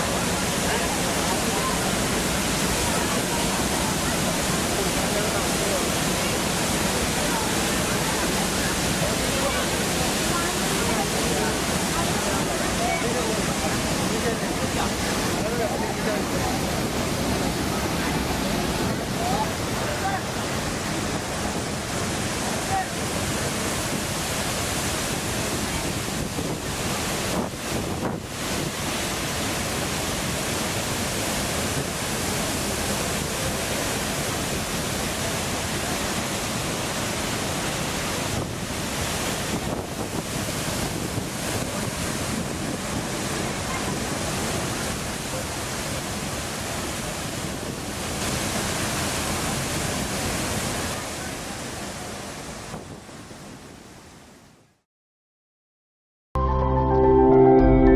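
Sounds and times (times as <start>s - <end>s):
waterfall rushing: 0.0s - 54.3s.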